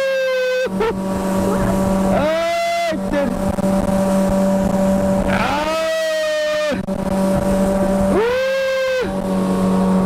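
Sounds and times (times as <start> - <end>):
drawn-out pitched tone: 0.0 - 10.0
motorboat engine humming: 0.0 - 10.0.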